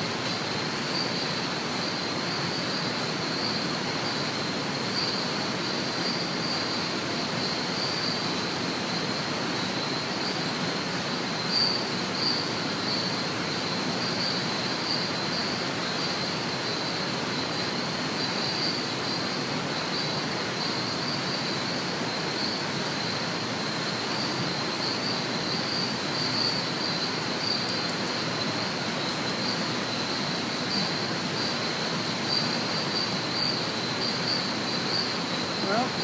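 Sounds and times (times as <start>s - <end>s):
background hiss: 0.0s - 36.0s
continuous high-pitched whine: 0.0s - 36.0s.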